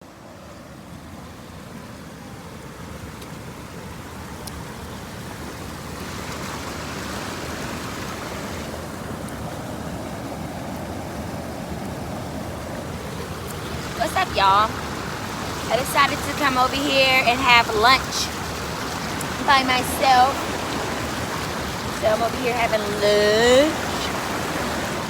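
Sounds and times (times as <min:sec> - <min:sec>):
waterfall rushing: 0:04.1 - 0:25.0.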